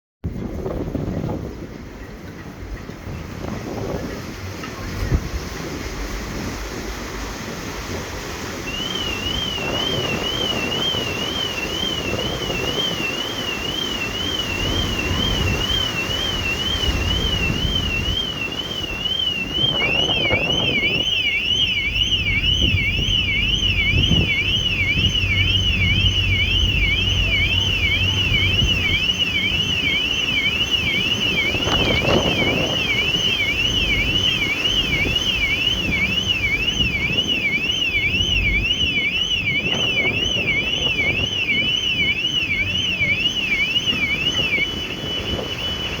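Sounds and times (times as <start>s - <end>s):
wind on microphone: 0.2s - 46.0s
lower wide warbling alarm: 3.4s - 46.0s
electronic alarm warbling: 8.4s - 46.0s.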